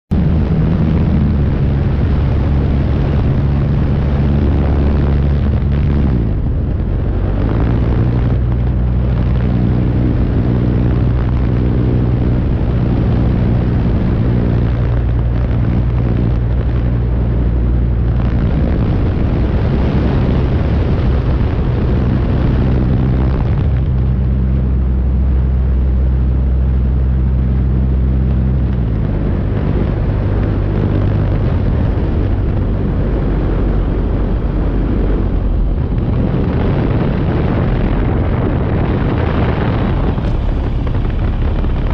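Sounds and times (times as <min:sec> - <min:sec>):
rough rumble of wind: 0:00.0 - 0:41.9
propeller engine droning: 0:00.1 - 0:41.9.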